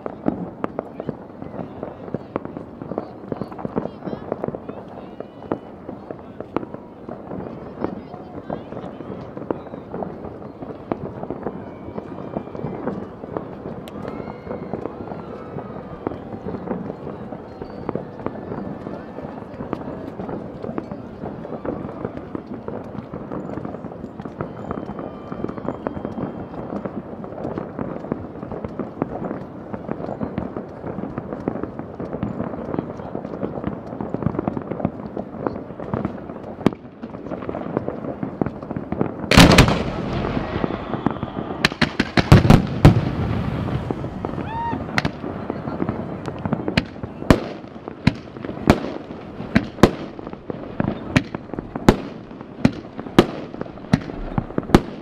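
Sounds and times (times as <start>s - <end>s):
fireworks crackling and banging: 0.0s - 55.0s
loud firework bangs: 0.0s - 55.0s.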